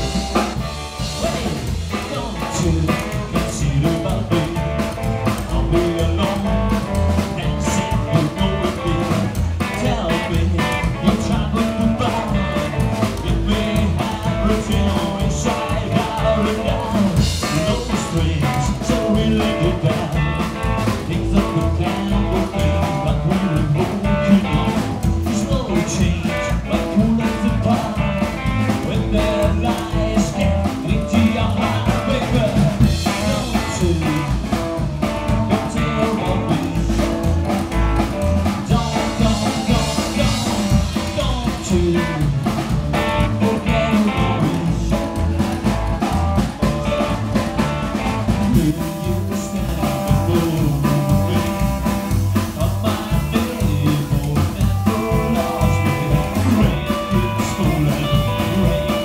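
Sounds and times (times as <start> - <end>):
drum kit: 0.0 - 59.0
guitar: 0.0 - 59.0
upright double bass: 0.0 - 59.0
person singing into microphone: 1.0 - 59.0.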